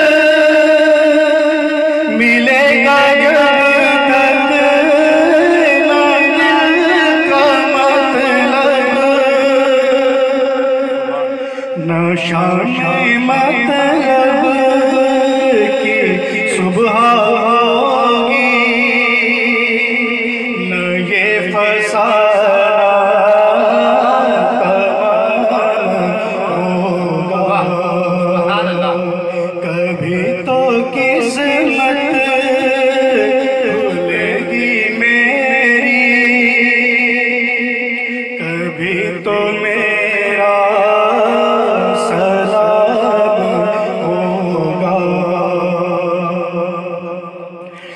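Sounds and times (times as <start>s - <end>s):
man singing into a microphone: 0.0s - 47.9s.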